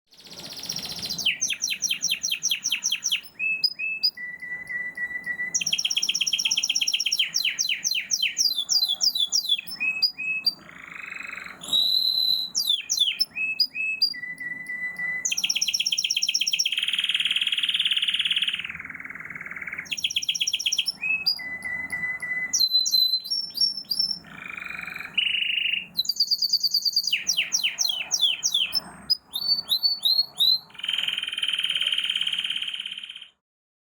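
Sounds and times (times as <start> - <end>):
birds singing trills and whistles: 0.1 - 33.4.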